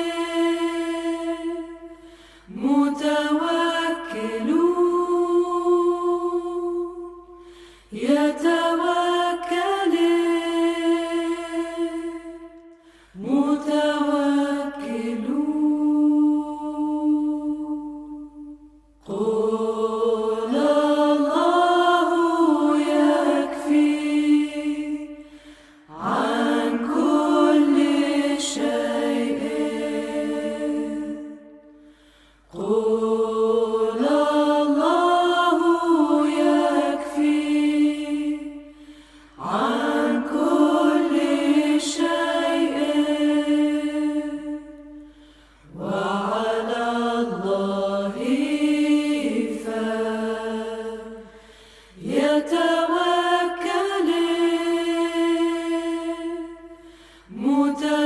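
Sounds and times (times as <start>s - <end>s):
slow singing: 0.0s - 58.0s.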